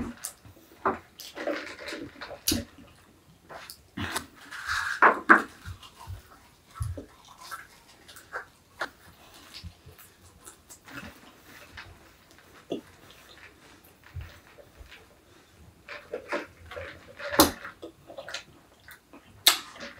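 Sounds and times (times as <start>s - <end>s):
person chewing and slurping: 0.0s - 19.9s.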